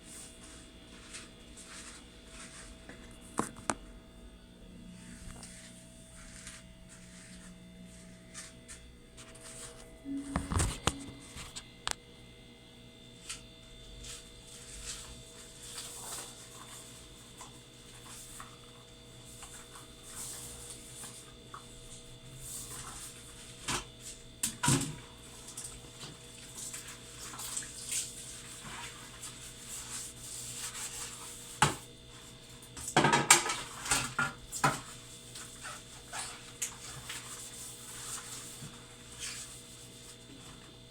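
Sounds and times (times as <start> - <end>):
refrigerator humming: 0.0 - 40.9.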